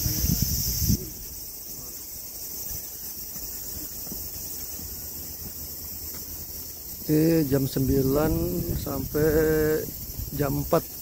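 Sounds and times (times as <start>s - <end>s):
insect chorus shrilling: 0.0s - 11.0s
quiet outdoor background: 0.0s - 11.0s.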